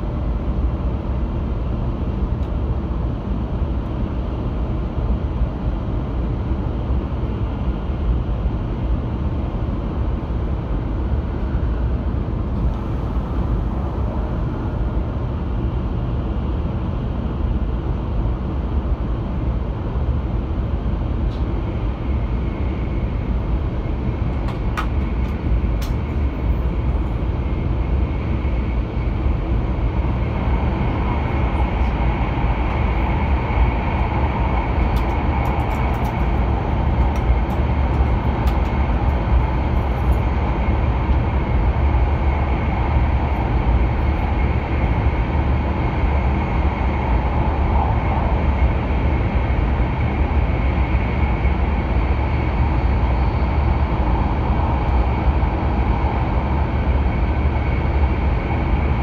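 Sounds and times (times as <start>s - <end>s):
train cabin deep rumble: 0.0s - 59.0s.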